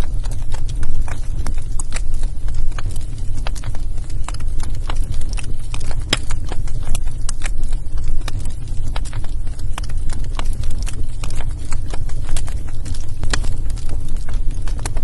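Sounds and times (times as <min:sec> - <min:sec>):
fire pops and snaps: 0:00.0 - 0:15.0
low fire rumble: 0:00.0 - 0:15.0
wood fire crackling: 0:00.0 - 0:15.0.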